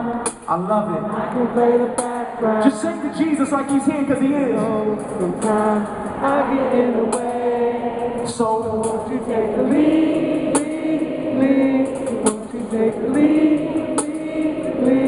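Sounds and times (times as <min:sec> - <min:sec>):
voices singing long notes: 0:00.0 - 0:15.0
sharp drum or cymbal hits: 0:01.8 - 0:15.0.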